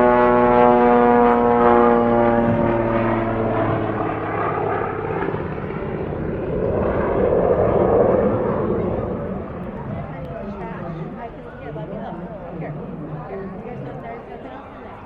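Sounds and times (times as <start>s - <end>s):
propeller airplane engine: 0.0s - 15.0s.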